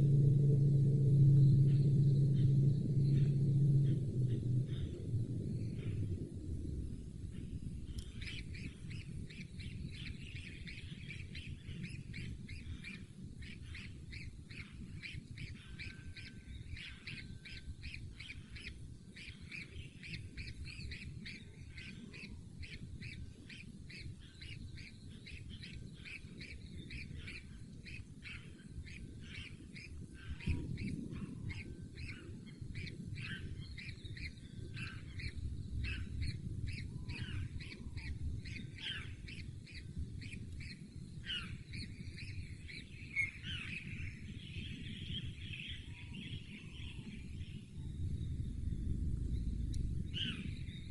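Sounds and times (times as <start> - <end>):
birds chirping rapidly: 0.0 - 50.9
low rumble: 0.0 - 50.9.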